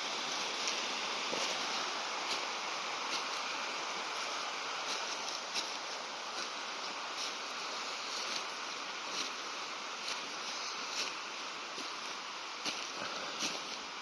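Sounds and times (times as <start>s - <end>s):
rushing outdoor background: 0.0s - 14.0s
footsteps on a path: 0.1s - 14.0s.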